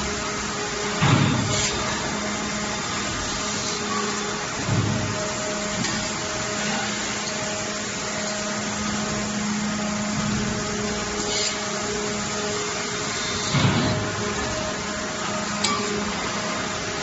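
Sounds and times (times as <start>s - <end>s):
low electrical drone: 0.0s - 17.0s
welding machine hum and hiss: 0.0s - 17.0s.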